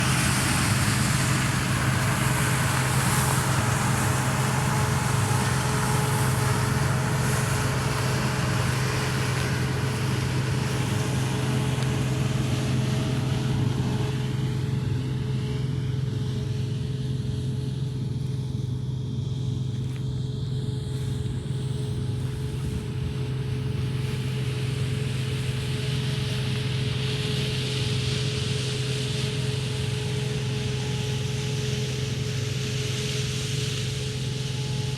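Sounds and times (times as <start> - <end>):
constant tone: 0.0 - 34.9
vehicle mechanical hum: 0.0 - 34.9.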